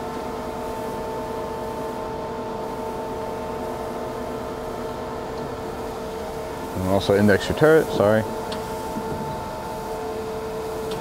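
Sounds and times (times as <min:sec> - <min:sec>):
lathe machine hum: 0:00.0 - 0:11.0.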